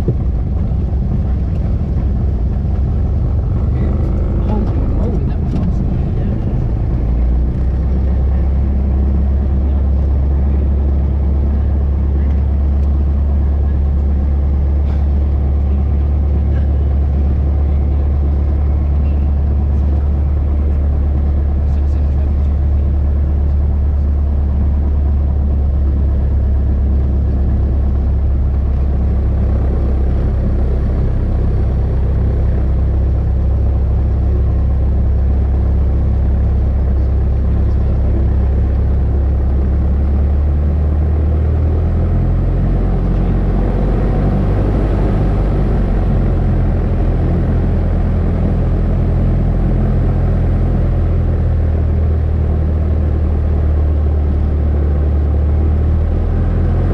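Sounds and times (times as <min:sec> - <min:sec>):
light aircraft engine running: 0:00.0 - 0:56.9.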